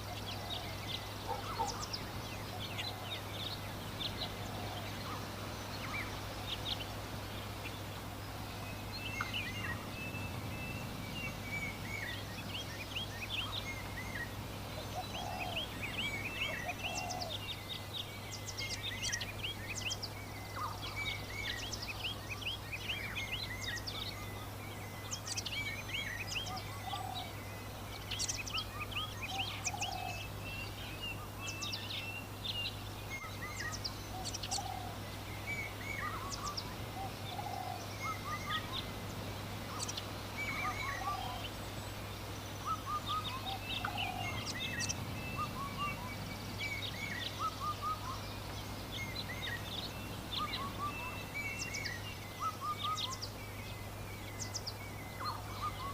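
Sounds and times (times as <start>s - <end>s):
birds chirping: 0.0s - 55.9s
lower bird call: 8.6s - 55.9s.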